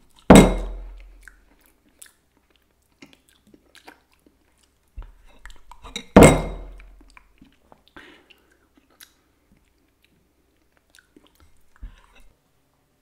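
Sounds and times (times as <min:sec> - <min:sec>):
man smacking lips: 0:01.0 - 0:05.9, 0:06.7 - 0:12.2
wet mouth clicks and chewing: 0:01.0 - 0:06.0, 0:06.7 - 0:12.2.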